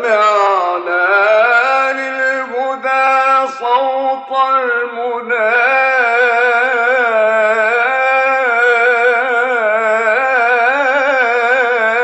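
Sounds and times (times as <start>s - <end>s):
man singing devotional chant: 0.0s - 12.0s.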